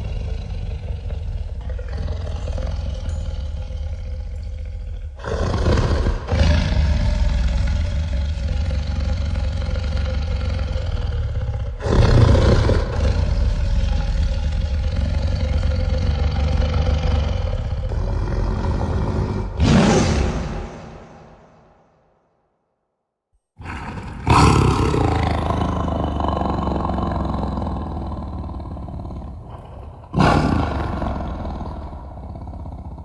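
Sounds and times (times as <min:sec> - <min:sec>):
deep dragon roars with echo: 0:00.0 - 0:22.1, 0:23.6 - 0:33.0.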